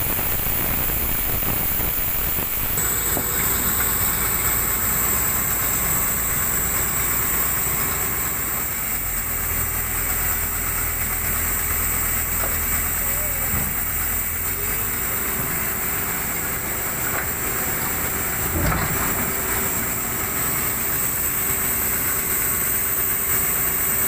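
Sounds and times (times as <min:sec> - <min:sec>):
constant hiss: 0:00.0 - 0:24.0
excavator diesel engines running: 0:00.0 - 0:24.0.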